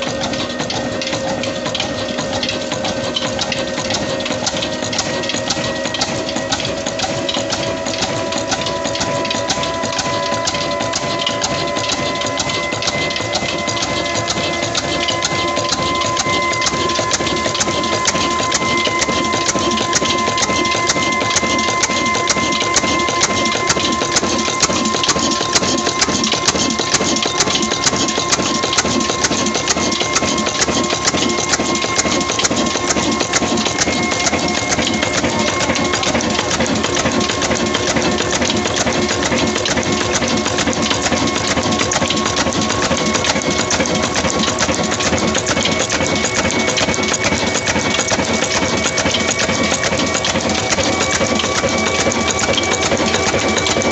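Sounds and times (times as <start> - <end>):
high whine: 0.0 - 53.9
stationary engine clattering: 0.0 - 53.9.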